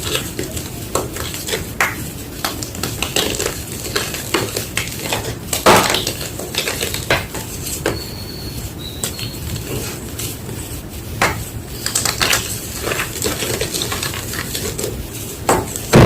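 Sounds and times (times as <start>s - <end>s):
chalk crunching: 0.0s - 16.0s.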